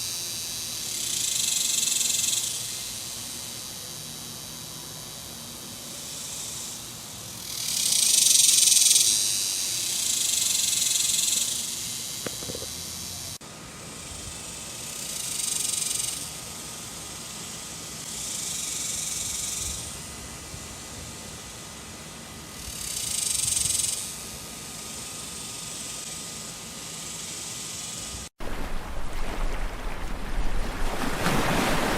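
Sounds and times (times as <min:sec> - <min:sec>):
cicada buzzing: 0:00.0 - 0:28.3.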